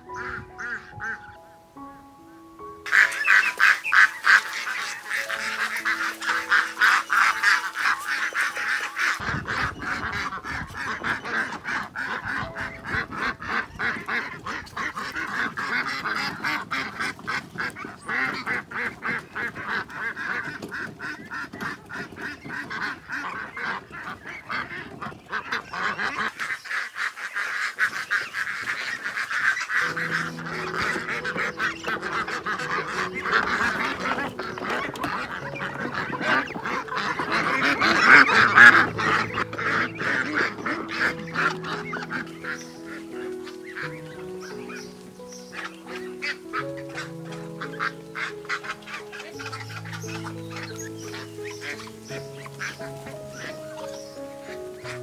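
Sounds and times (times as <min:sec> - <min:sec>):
flock of ducks quacking: 0:00.0 - 0:55.0.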